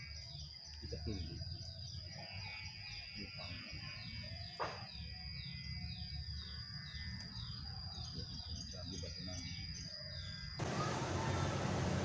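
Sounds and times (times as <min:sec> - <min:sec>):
bird chirping: 0:00.0 - 0:11.4.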